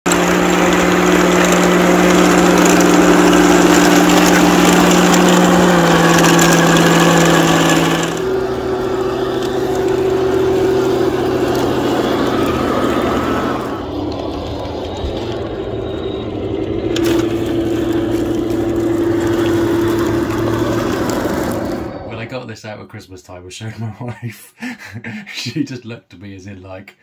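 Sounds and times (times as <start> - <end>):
toy tank drivetrain and tracks: 0.1 - 22.3
toy tank engine sound effect: 0.1 - 22.4.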